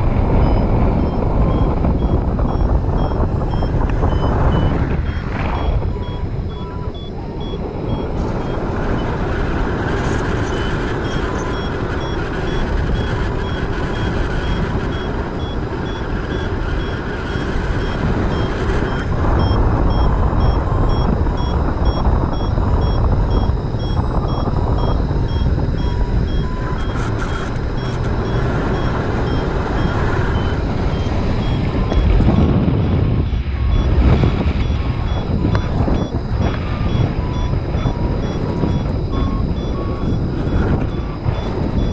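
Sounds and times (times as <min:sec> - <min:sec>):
strong wind buffeting microphone: 0:00.0 - 0:41.9
variometer beeping: 0:00.0 - 0:41.9.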